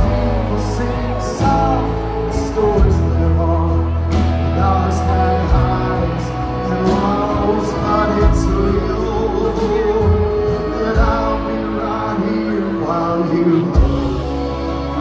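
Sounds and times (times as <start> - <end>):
live band playing: 0.0 - 15.0
moving bass line: 0.0 - 15.0.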